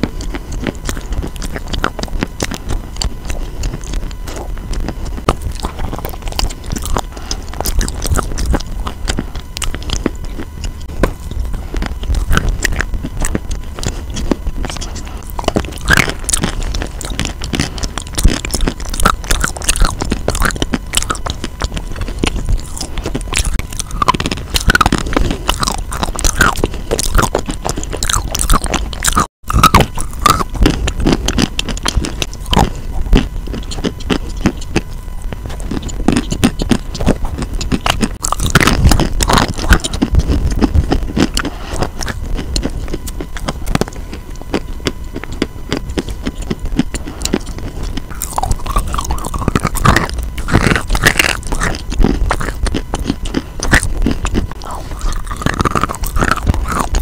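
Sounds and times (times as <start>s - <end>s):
wet crunchy chewing: 0.0s - 57.0s.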